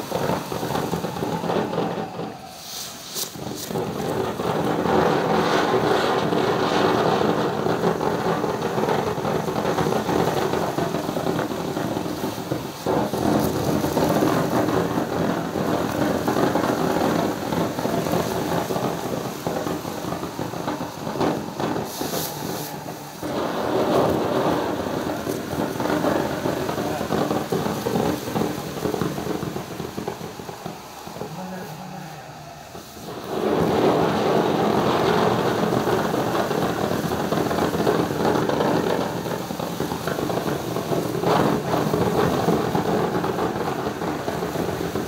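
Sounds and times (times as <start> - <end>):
fine crackle of sparks: 0.0 - 45.0
ground fountain firework spraying sparks: 0.0 - 45.0.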